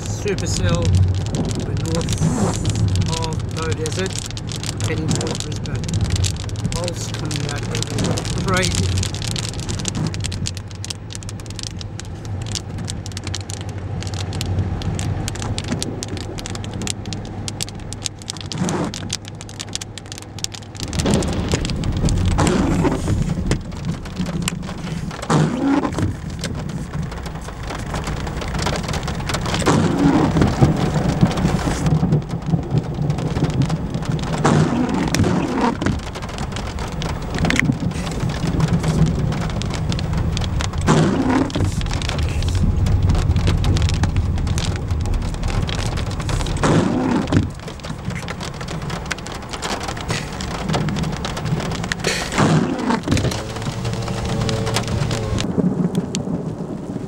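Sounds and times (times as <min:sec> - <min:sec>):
low vehicle hum: 0:00.0 - 0:57.0
rain on car roof: 0:00.0 - 0:57.0
thunder rumbling: 0:00.0 - 0:57.0.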